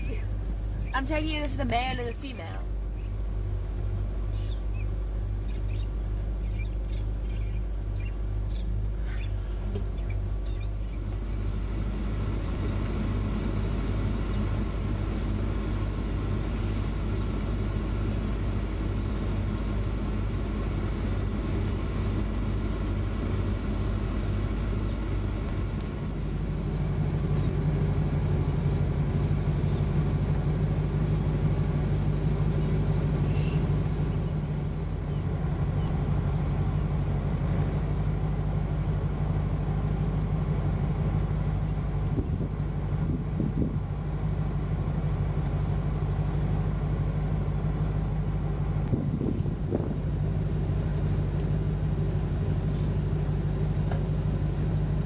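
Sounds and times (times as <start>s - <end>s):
car engine hum from inside: 0.0s - 55.0s.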